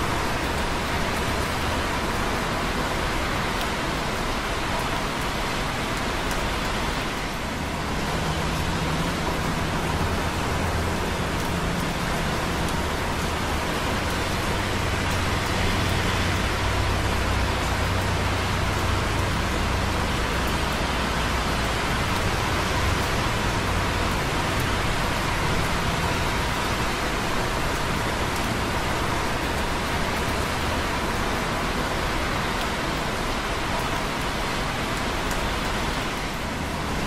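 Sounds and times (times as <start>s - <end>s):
passing vehicles rumble: 0.0s - 37.0s
rain dripping on concrete: 0.0s - 37.0s
traffic on wet roads: 0.0s - 37.0s.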